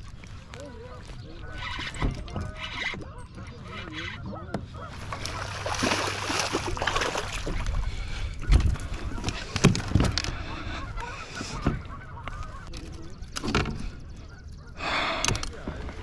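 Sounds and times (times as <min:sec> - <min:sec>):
geese honking: 0:00.3 - 0:07.3, 0:08.0 - 0:16.0.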